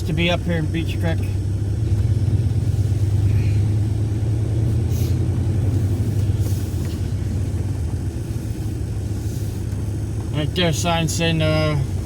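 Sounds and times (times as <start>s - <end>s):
car rumbling from inside cabin: 0.0s - 12.0s.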